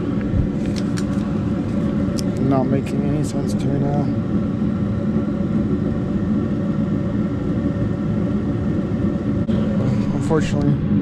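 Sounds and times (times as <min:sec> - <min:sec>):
gas furnace hum and rumble: 0:00.0 - 0:11.0.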